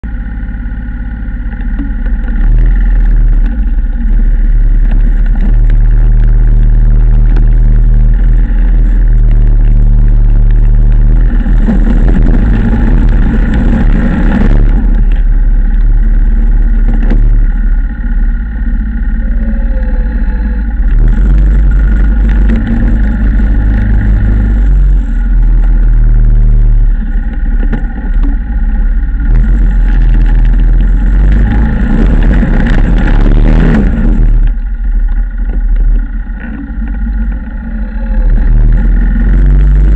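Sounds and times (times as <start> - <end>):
atv engine rumbling under load: 0.0 - 39.9
plow blade pushing snow: 0.1 - 39.9.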